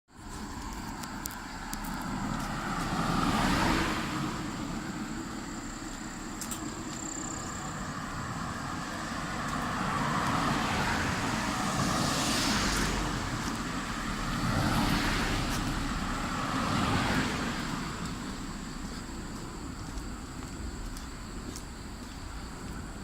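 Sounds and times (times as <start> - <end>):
background traffic noise: 0.1 - 23.0
cars passing: 0.1 - 23.0.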